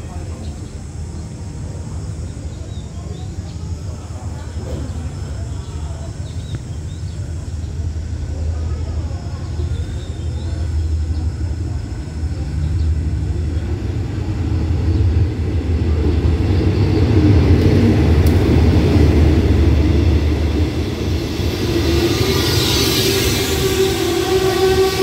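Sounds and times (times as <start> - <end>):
diesel locomotive engine rumble: 0.0 - 25.0
hiss of wheels on rails: 0.0 - 25.0.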